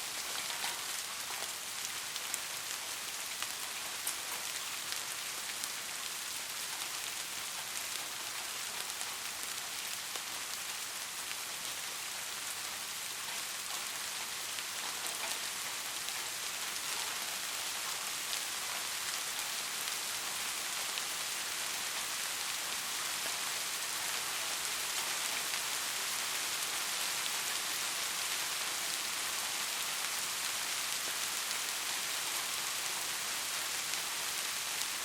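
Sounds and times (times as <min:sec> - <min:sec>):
rain falling: 0:00.0 - 0:35.0.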